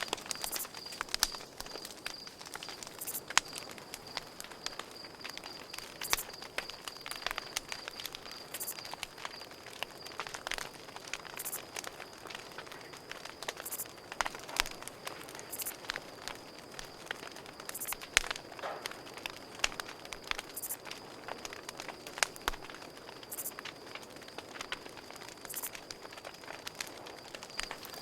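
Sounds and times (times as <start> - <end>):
campfire crackling: 0.0 - 28.0
cricket chirping: 0.0 - 28.0.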